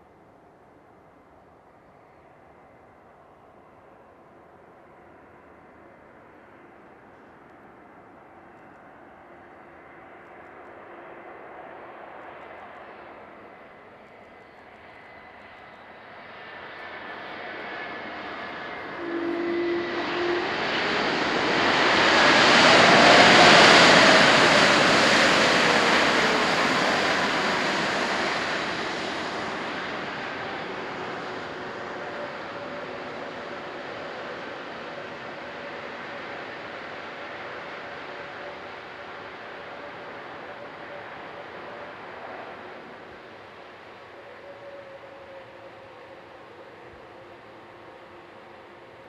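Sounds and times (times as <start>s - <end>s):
jet airliner passing: 1.8s - 49.0s.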